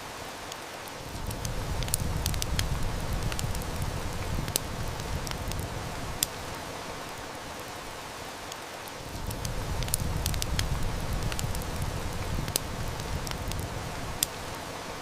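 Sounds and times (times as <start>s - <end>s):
heavy rain hissing: 0.0s - 15.0s
wood fire crackling: 0.0s - 15.0s.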